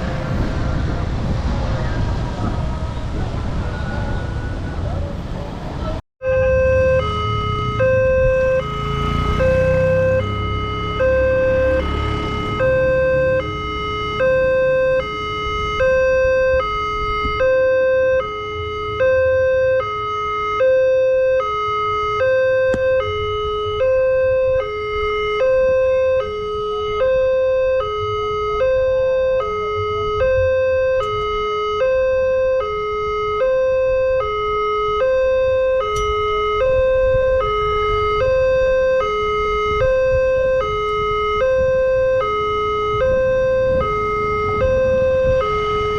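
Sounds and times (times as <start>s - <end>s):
two-tone level crossing siren: 6.2s - 45.9s.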